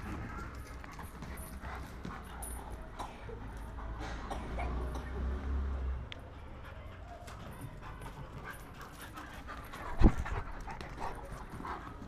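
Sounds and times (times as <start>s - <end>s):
dogs panting: 0.0s - 4.0s, 6.2s - 12.0s.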